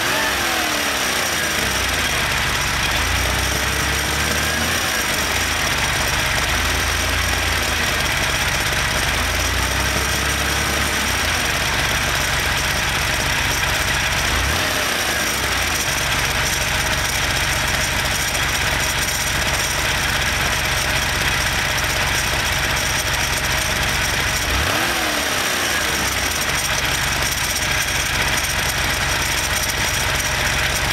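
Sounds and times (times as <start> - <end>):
car engine revving: 0.0 - 30.9
engine ticking: 0.0 - 30.9.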